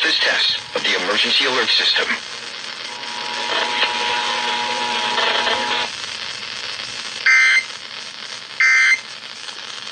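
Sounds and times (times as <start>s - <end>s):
radio hiss: 0.0s - 9.9s.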